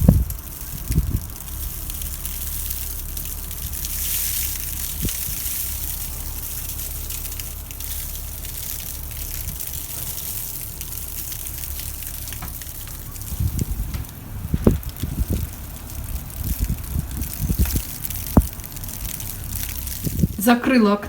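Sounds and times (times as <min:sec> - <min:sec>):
blizzard wind rushing hiss: 0:00.0 - 0:20.4
low thumps: 0:00.0 - 0:21.0.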